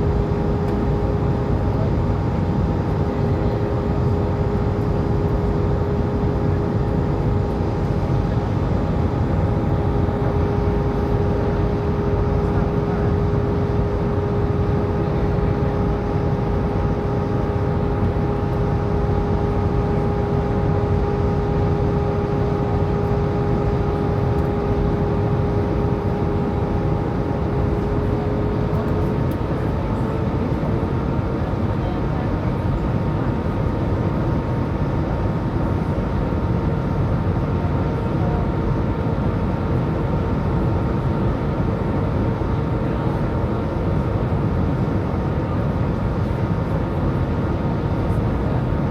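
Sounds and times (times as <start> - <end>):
jet cabin air rush and engine noise: 0.0 - 48.9.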